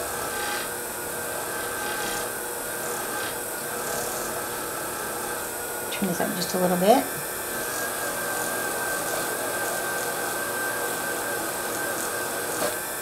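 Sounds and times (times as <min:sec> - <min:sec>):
bench lathe whining: 0:00.0 - 0:13.0.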